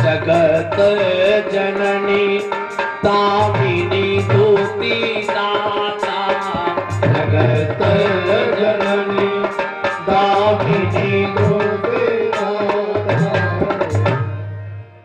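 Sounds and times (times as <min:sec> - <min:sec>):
held melodic line: 0:00.0 - 0:15.0
tabla drumming: 0:00.0 - 0:15.0.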